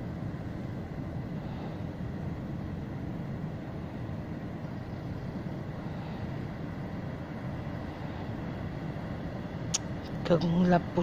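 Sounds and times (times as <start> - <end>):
distant ocean surf: 0.0 - 11.0.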